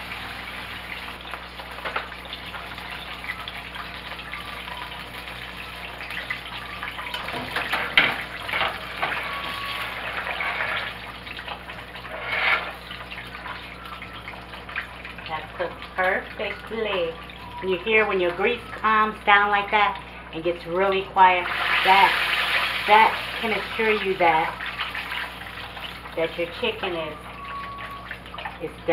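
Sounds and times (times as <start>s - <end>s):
chicken sizzling in hot oil: 0.0s - 20.3s, 21.2s - 28.9s.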